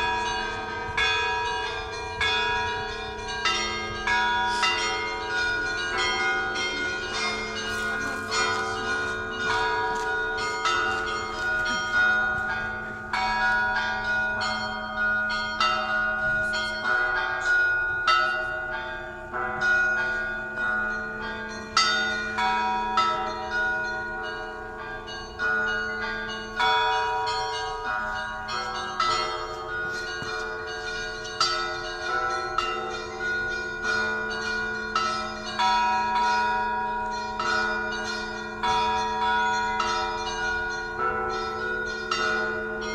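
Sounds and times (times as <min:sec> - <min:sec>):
large bell humming: 0:00.0 - 0:42.9
small church bells ringing: 0:00.0 - 0:42.9.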